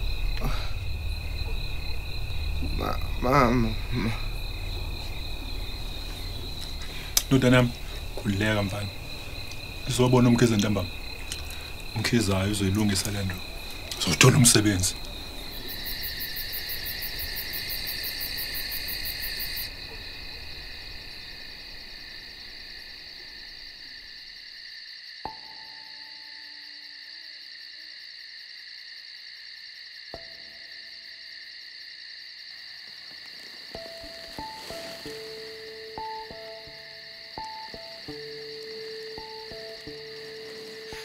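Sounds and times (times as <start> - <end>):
night insects chirring: 0.0 - 41.0.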